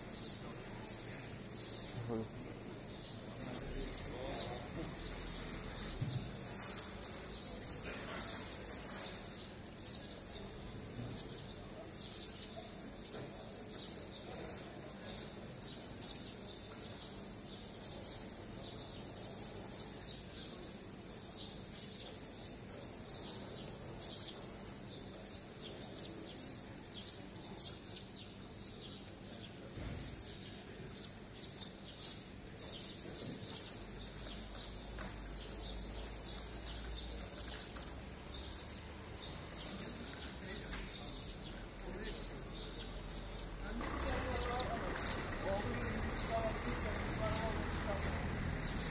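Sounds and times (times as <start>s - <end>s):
swallows chirping alarm calls: 0.0s - 48.9s.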